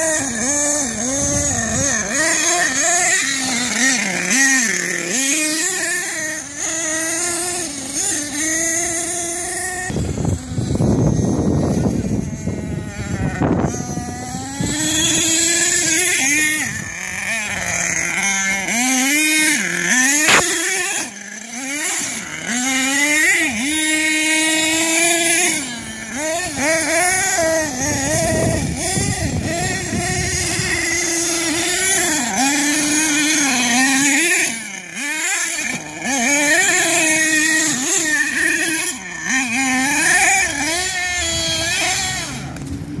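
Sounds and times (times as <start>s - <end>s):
model truck engine revving: 0.0s - 43.0s.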